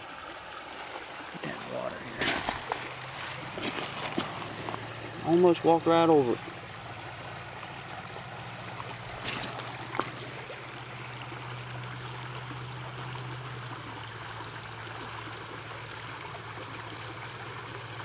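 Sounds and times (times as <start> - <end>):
creek water trickling: 0.0 - 18.0.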